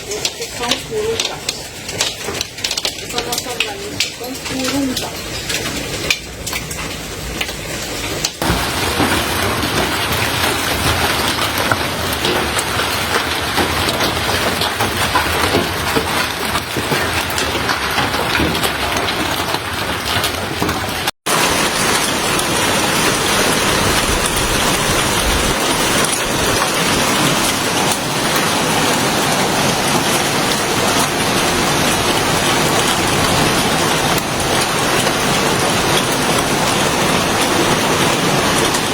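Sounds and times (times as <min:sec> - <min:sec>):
heavy hail hissing: 0:00.0 - 0:38.9.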